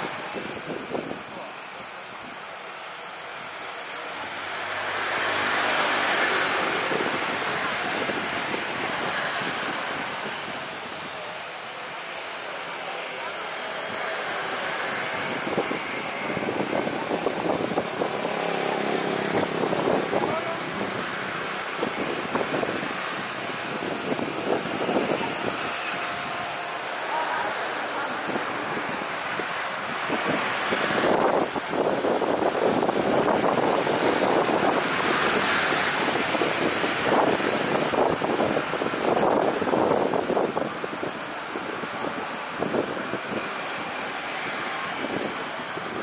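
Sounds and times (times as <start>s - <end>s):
jet engines rushing: 0.0s - 46.0s
wind buffeting microphone: 0.0s - 46.0s.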